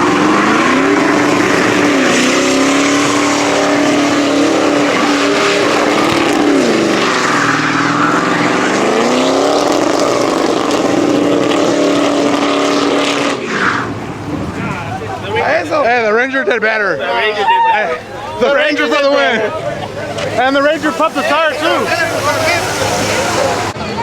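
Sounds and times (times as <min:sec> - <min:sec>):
truck engine at high revs: 0:00.0 - 0:14.6, 0:18.5 - 0:24.0
spinning tyres hissing: 0:00.0 - 0:14.9, 0:18.2 - 0:23.8.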